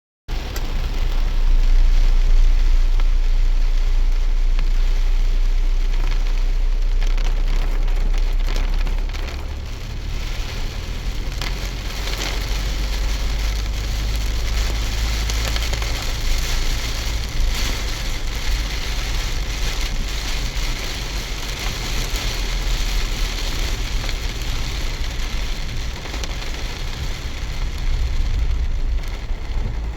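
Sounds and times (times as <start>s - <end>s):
deep rumble: 0.3s - 29.9s
heavy rain pattering: 0.3s - 29.9s.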